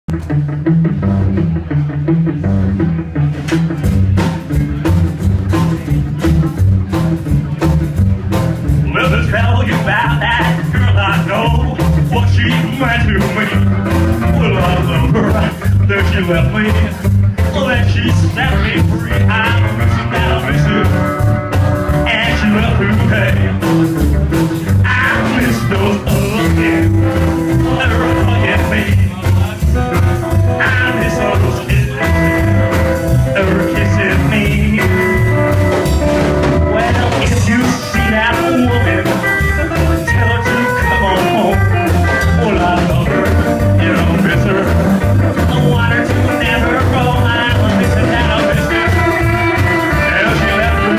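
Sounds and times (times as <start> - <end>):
upright bass line: 0.0 - 50.9
drum kit: 0.1 - 50.9
electric guitar: 0.1 - 50.9
rockabilly band playing live: 0.1 - 50.9.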